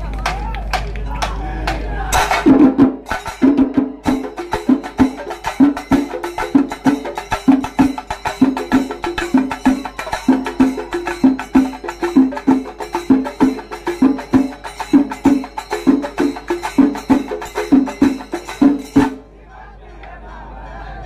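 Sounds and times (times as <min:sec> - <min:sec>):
drums played with sticks: 0:00.0 - 0:19.3.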